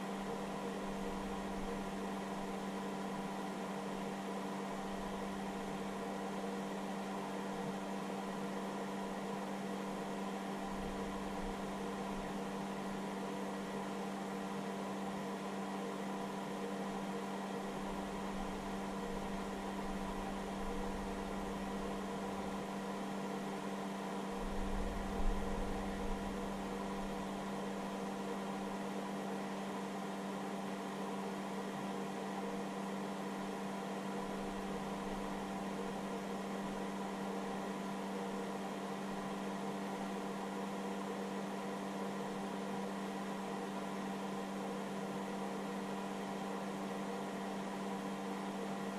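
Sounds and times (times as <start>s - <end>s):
charger fan hum and whine: 0.0s - 48.9s.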